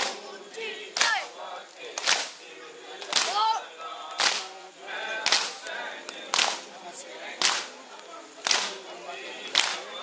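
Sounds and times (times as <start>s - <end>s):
mourners beating chests: 0.0s - 10.0s.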